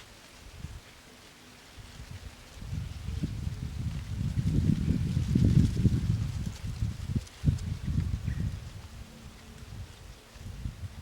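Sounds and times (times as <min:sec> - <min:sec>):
wind buffeting microphone: 0:00.4 - 0:00.8, 0:01.8 - 0:11.0.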